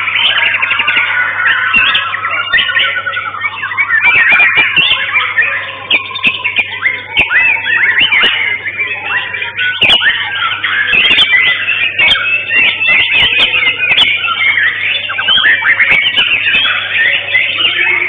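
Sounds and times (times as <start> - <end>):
birds singing: 0.0 - 18.0.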